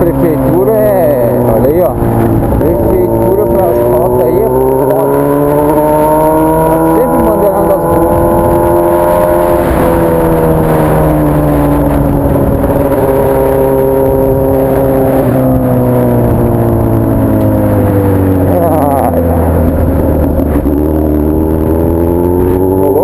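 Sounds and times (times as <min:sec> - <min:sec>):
loud motorcycle engine: 0:00.0 - 0:23.0.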